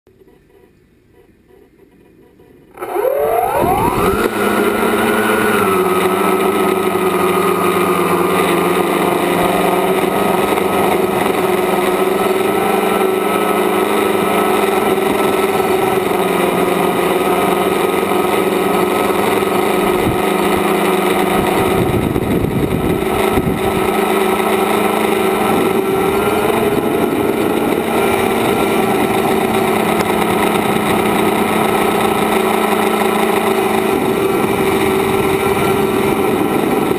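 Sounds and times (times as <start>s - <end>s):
drone motors and propellers whining: 1.8s - 36.9s.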